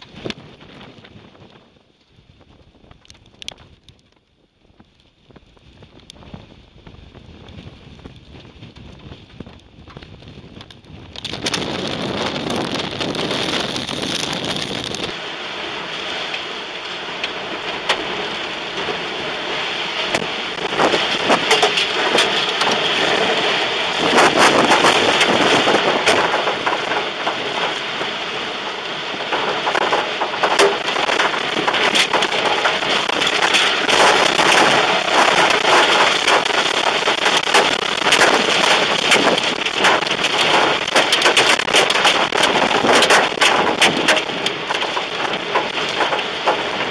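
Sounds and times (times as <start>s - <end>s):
heavy rain and wind on car: 0.0s - 46.9s.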